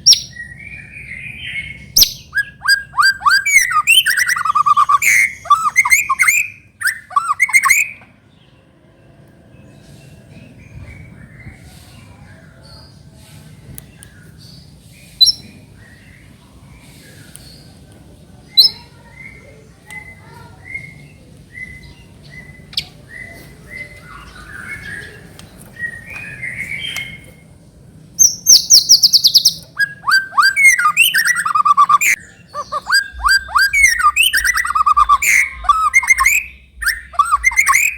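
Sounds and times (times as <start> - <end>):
songbird singing: 0.0 - 37.9.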